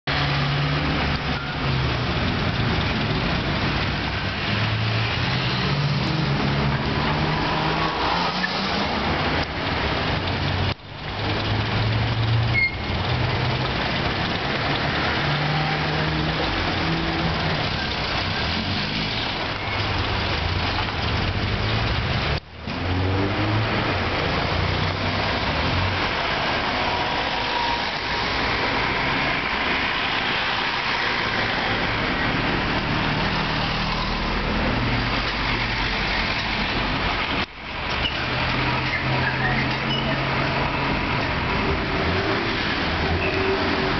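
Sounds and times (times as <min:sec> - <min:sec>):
car engines passing slowly: 0:00.1 - 0:43.9.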